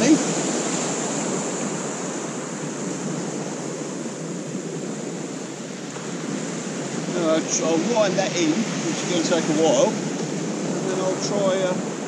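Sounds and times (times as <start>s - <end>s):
waves breaking on shingle beach: 0.0s - 12.0s.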